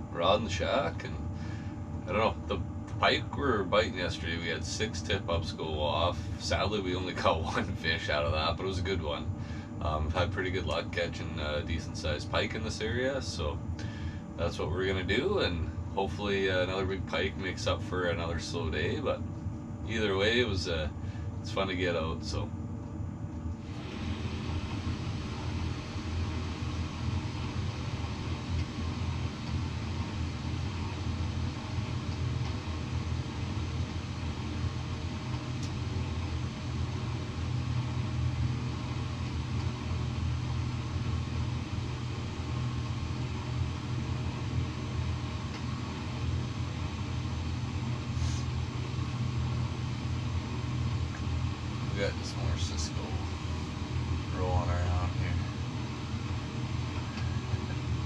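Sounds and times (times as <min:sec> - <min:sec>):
low mechanical rumble: 0:00.0 - 0:58.0.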